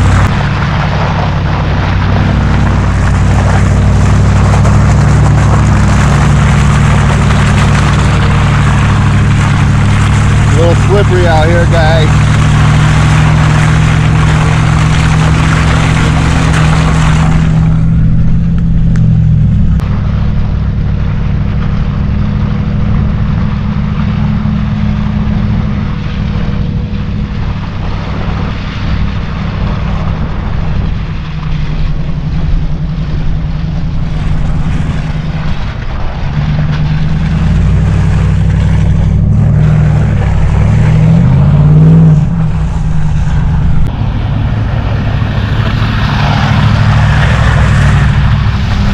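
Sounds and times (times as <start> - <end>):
truck engine revving: 0.0 - 48.9.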